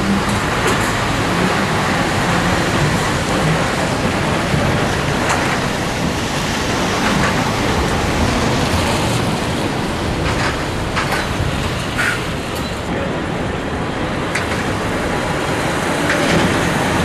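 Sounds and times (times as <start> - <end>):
road and wind noise: 0.0 - 17.0
truck engine drone: 0.0 - 17.0.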